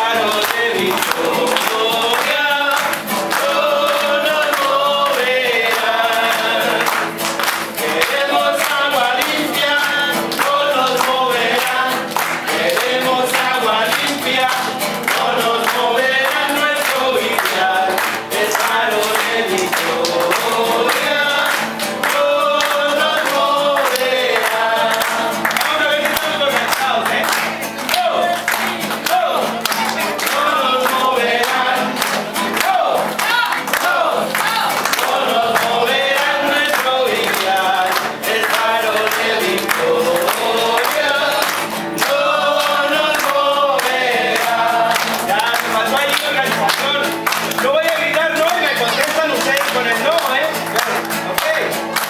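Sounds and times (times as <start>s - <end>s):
group of voices singing: 0.0s - 52.0s
hand clapping: 0.0s - 52.0s.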